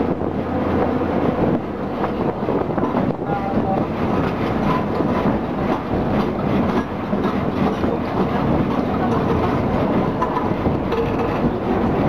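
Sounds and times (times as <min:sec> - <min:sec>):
low rumble of tram locomotive: 0:00.0 - 0:12.0
wheels and couplings rattling: 0:01.4 - 0:12.0.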